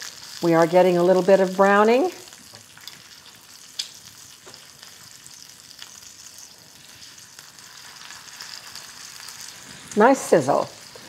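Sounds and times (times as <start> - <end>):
bacon sizzling in a skillet: 0.0 - 11.0.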